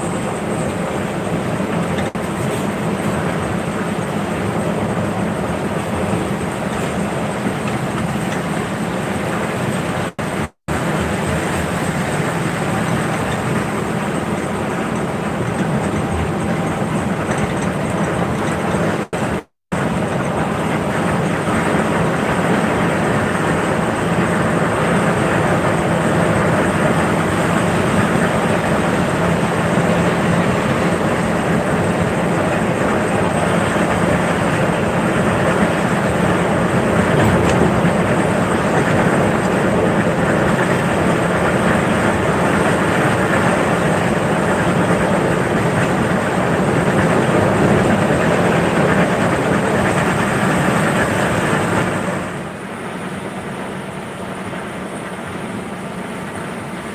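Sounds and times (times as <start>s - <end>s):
tyres hissing on wet road: 0.0s - 15.7s, 20.1s - 56.9s
low engine drone: 0.0s - 56.9s.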